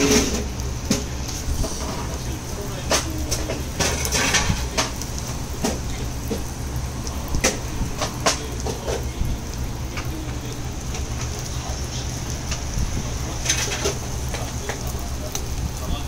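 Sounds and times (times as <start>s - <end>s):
food sizzling on griddle: 0.0s - 16.0s
low steady rumble: 0.0s - 16.0s.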